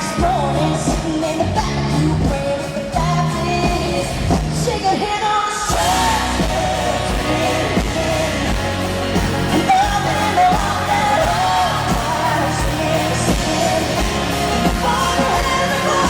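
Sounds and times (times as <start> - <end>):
live band playing: 0.0 - 16.0
woman singing: 0.0 - 16.0.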